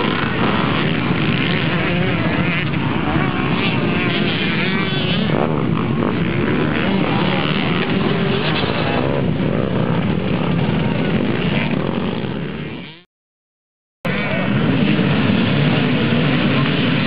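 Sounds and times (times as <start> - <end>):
motocross bike engines revving: 0.0 - 13.1, 14.1 - 17.0.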